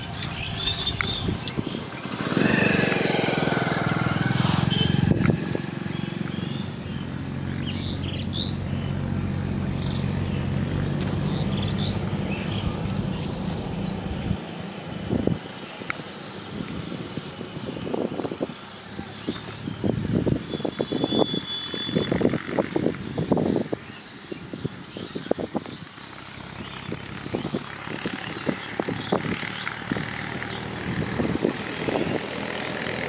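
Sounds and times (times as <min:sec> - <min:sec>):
engine running: 0:00.0 - 0:23.4, 0:26.0 - 0:33.0.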